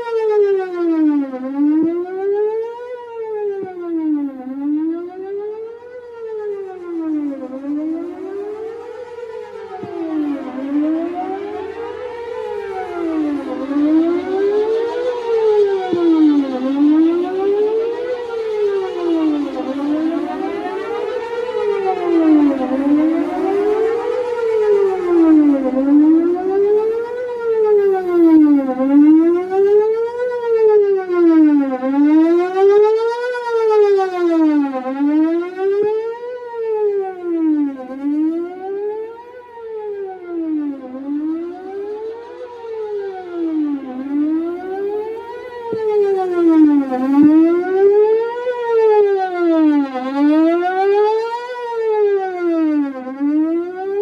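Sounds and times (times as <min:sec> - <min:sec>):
fast wailing warning siren: 0:00.0 - 0:54.0.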